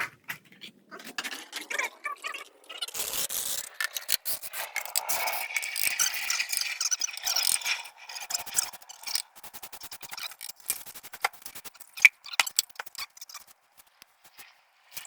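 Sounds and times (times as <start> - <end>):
trowel scraping and clicking on tile: 2.8 - 15.0.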